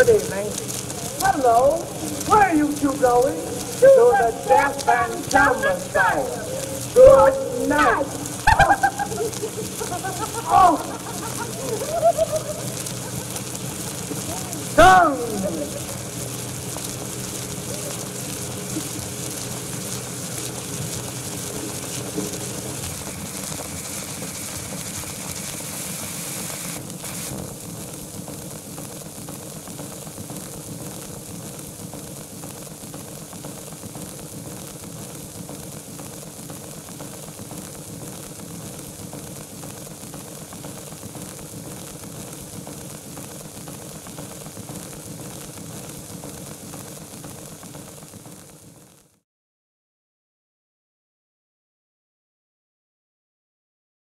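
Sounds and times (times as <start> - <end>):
scratchy hiss and crackle: 0.0 - 49.2.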